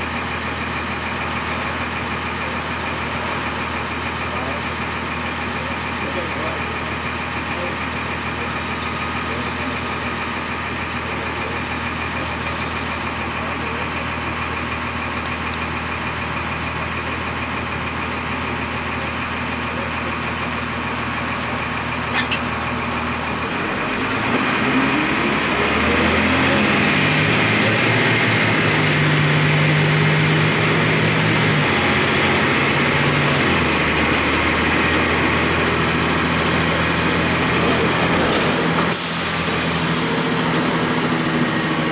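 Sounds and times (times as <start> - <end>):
bus diesel engine idling and revving: 0.0 - 41.9.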